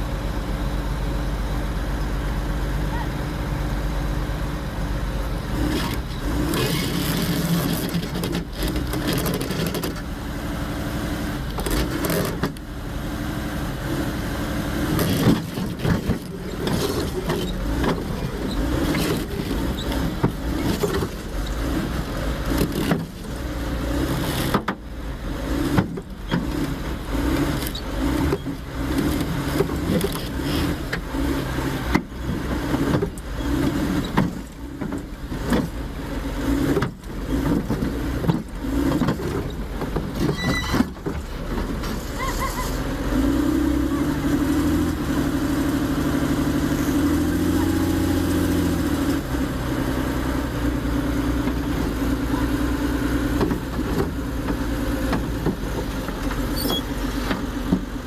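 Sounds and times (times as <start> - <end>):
heavy vehicle engine running: 0.0 - 58.0.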